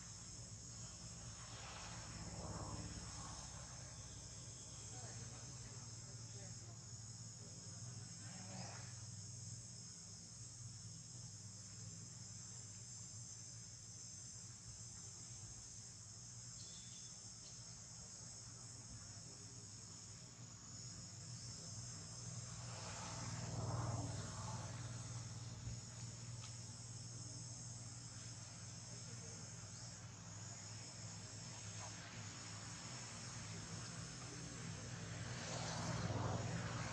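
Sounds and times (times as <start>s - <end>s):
high-pitched insect chorus: 0.0s - 36.9s
low steady hum: 0.0s - 36.9s.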